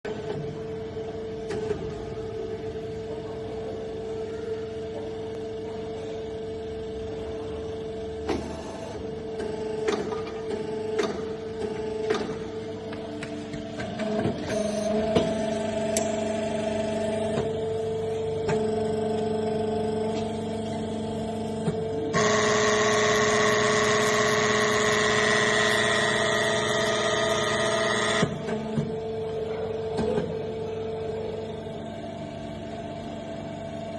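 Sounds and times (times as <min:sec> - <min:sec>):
moulding machine humming: 0:00.1 - 0:33.9.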